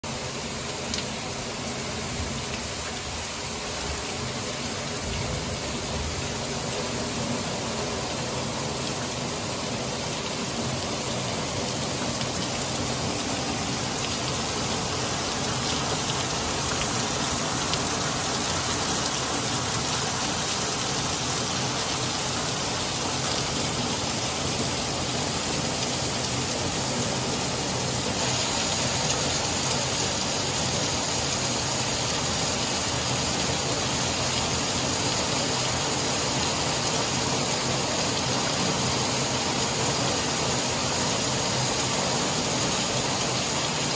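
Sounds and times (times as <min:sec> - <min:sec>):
torrential rain on pavement: 0:00.0 - 0:43.9.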